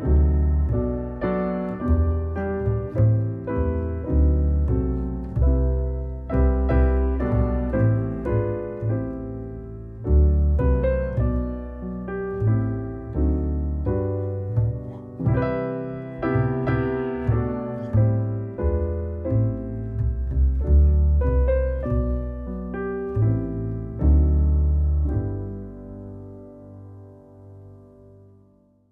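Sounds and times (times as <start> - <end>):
piano music: 0.0 - 28.9.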